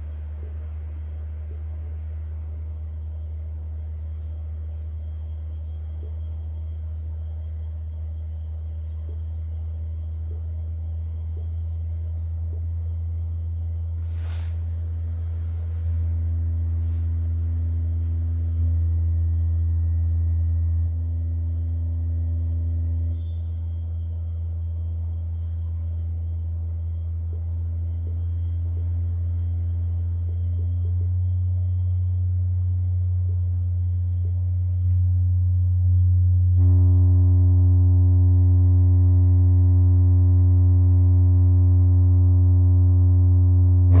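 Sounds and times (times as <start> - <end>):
subwoofer deep steady tone: 0.0 - 44.0.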